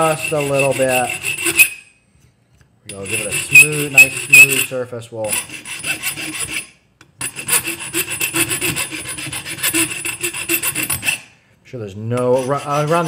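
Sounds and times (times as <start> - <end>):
hand file rasping on metal: 0.0 - 1.8, 2.9 - 11.3, 12.2 - 13.0.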